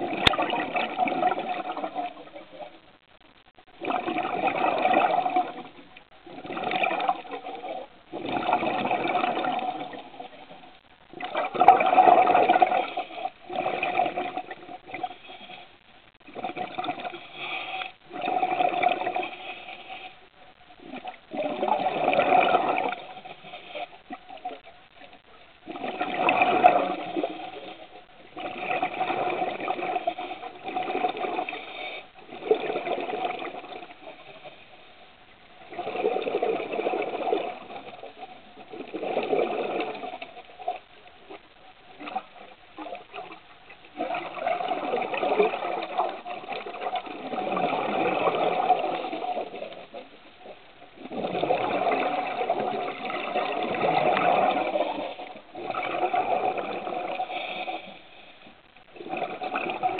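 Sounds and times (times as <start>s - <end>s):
underwater breath bubbles: 0.0s - 2.8s, 3.6s - 59.9s.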